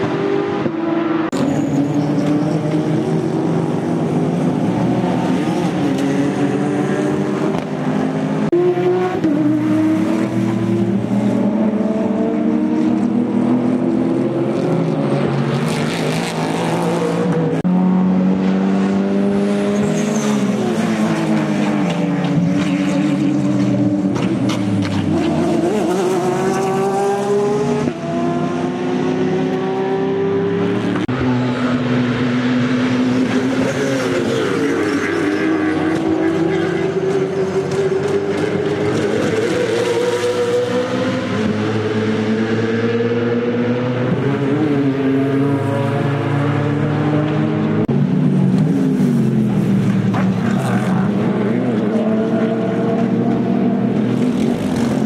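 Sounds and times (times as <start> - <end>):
race cars passing at speed: 0.0 - 55.0.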